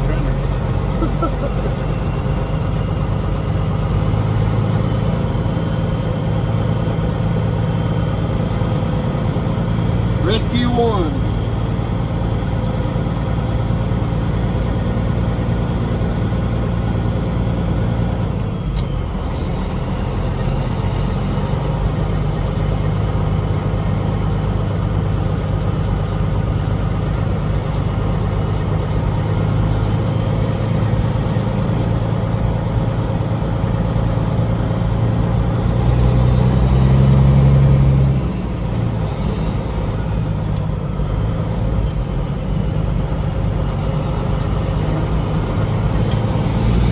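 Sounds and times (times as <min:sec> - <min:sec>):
road noise: 0:00.0 - 0:46.9
truck diesel engine droning: 0:00.0 - 0:46.9.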